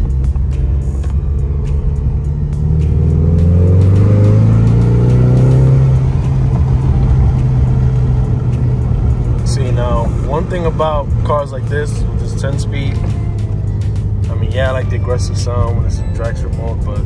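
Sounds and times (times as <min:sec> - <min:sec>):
car engine revving under hard acceleration: 0:00.0 - 0:17.0.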